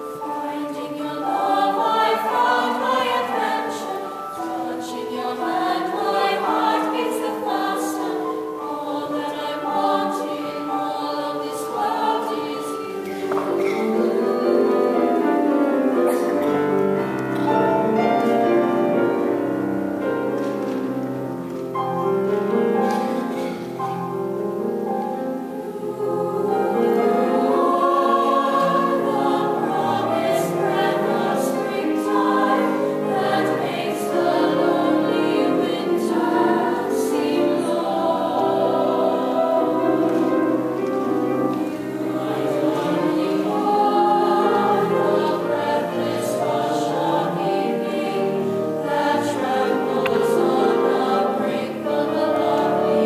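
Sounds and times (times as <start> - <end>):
choir singing in harmony: 0.0 - 53.0
grand piano: 0.0 - 53.0.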